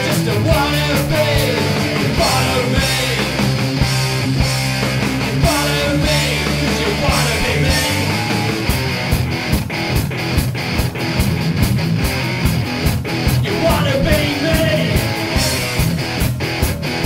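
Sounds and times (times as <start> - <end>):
drum beat: 0.0 - 17.0
electric guitar riffs: 0.0 - 17.0.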